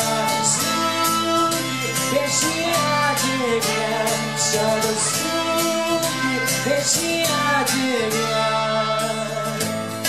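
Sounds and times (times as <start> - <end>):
acoustic guitar strumming: 0.0 - 10.0
harmonica melody: 0.0 - 10.0.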